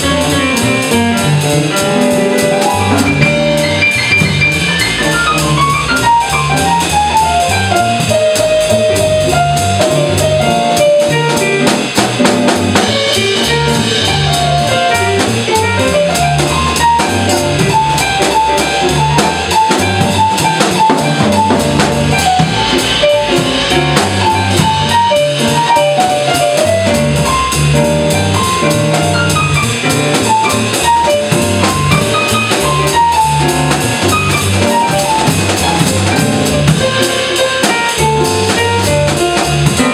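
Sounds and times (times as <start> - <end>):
keyboard melody: 0.0 - 39.9
upright bass walking: 0.0 - 39.9.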